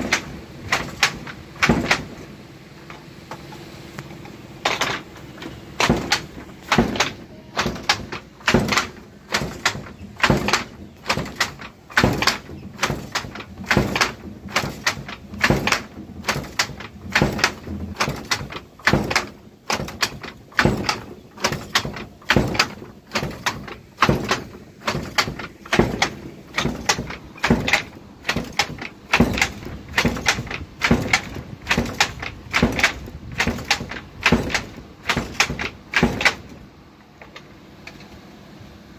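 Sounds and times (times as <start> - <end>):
handloom shuttle and beater clacking: 0.0 - 38.1.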